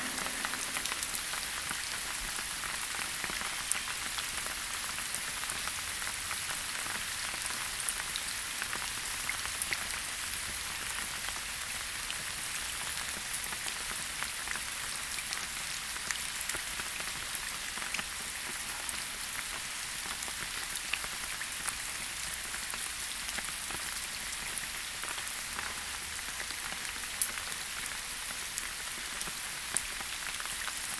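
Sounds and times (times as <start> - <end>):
rain falling in a forest: 0.0 - 30.9.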